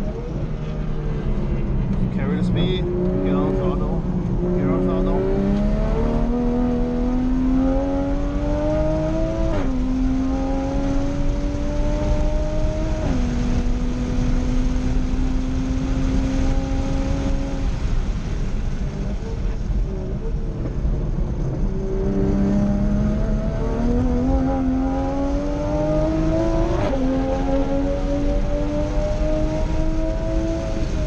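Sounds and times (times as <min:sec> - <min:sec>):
race car engine revving and shifting: 0:00.0 - 0:31.0
road and wind noise: 0:00.0 - 0:31.0.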